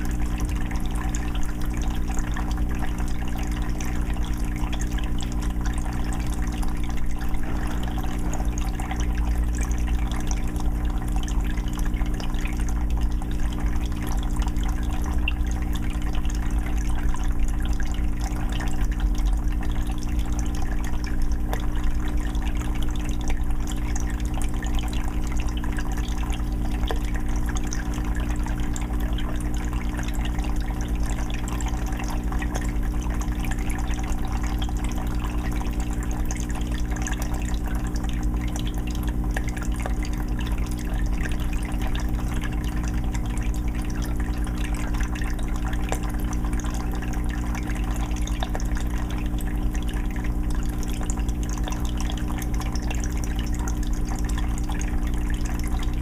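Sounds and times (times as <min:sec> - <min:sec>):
low steady hum: 0:00.0 - 0:56.0
water trickling and dripping: 0:00.0 - 0:56.0.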